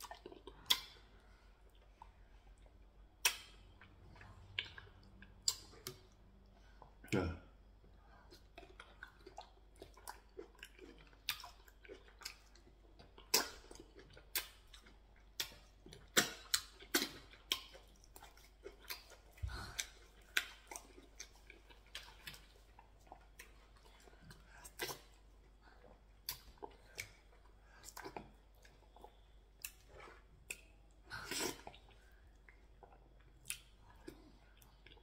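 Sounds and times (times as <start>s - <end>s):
wet chewing and lip smacking: 0.0s - 7.0s, 8.3s - 35.0s.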